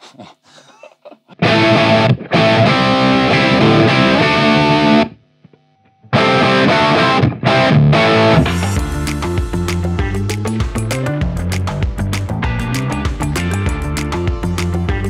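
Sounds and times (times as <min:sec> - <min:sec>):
distorted electric guitar chords: 0:01.3 - 0:15.0.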